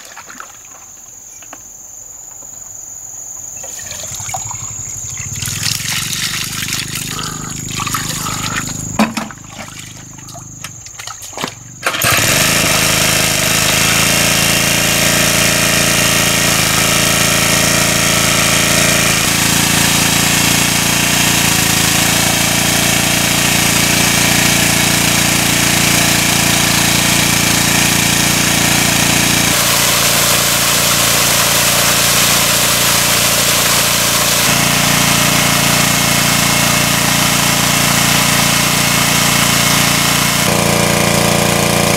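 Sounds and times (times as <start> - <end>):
water jet spraying: 3.7 - 10.6, 11.8 - 41.9
small petrol engine running: 3.8 - 10.8, 11.5 - 41.9.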